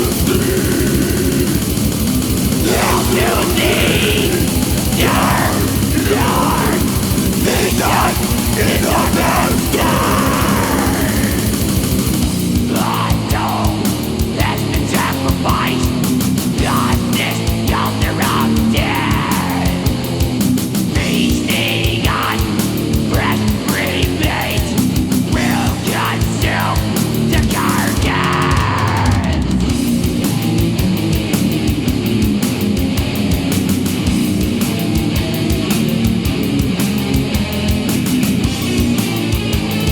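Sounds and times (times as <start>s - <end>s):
death metal instrumental: 0.0s - 39.9s.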